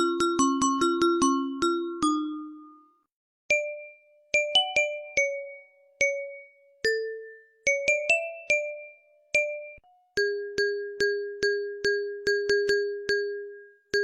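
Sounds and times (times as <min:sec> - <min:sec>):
ringtone melody in mallet tones: 0:00.0 - 0:14.0.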